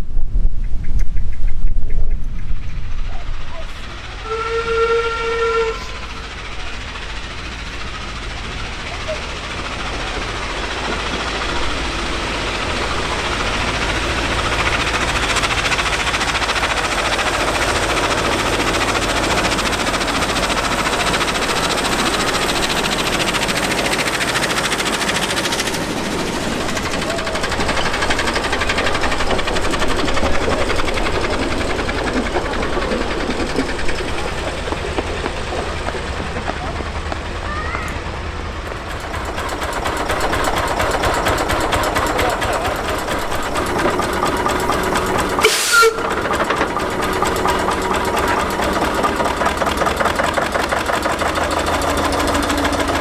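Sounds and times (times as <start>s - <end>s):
locomotive engine beating: 2.2s - 53.0s.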